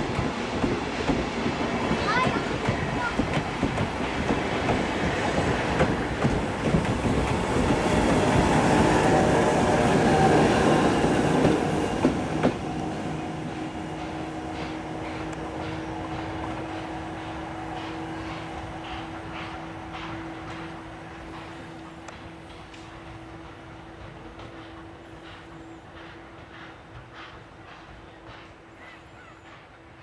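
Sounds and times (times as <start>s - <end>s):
train wheels clacking over rail joints: 0.0s - 30.0s.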